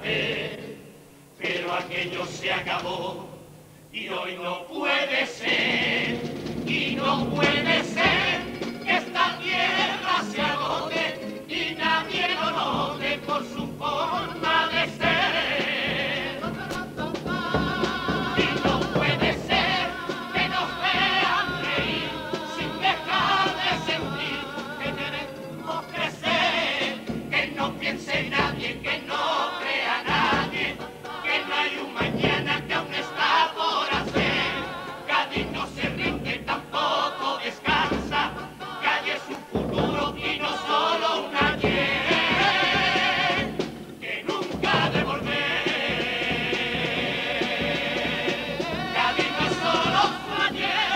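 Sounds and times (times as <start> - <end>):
male chorus singing in harmony: 0.0 - 50.9
acoustic guitar accompaniment: 5.5 - 50.9.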